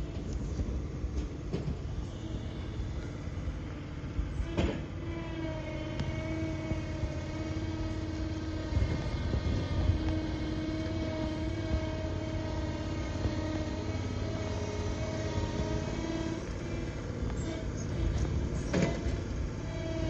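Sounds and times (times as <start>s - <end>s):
low rattling rumble: 0.0s - 20.0s
small tractor engine running: 0.0s - 20.0s
steady whine: 0.0s - 20.0s.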